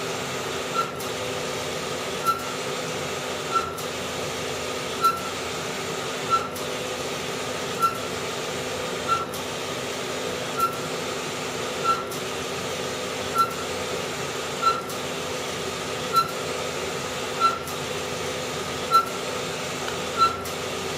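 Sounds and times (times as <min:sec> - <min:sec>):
printer whirring: 0:00.0 - 0:20.9.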